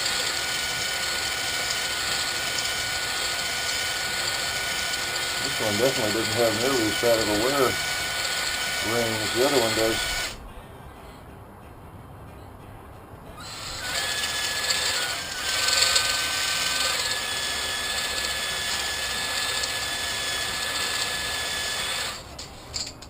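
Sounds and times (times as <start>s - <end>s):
electric drill grinding metal: 0.0s - 10.4s, 13.4s - 23.0s.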